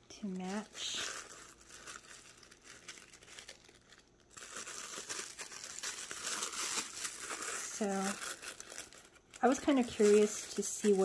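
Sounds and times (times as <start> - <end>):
bubble wrap and tissue paper crinkling: 0.0 - 11.0.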